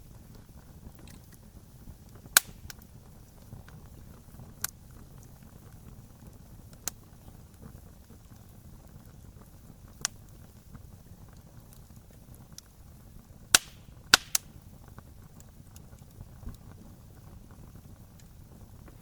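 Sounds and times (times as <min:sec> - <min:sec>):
campfire crackling: 0:00.0 - 0:19.0
sharp pops from burning wood: 0:00.0 - 0:19.0.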